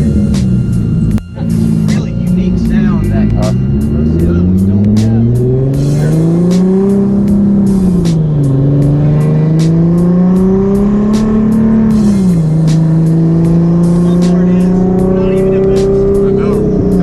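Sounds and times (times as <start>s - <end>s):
turbo car engine revving: 0.0s - 17.0s.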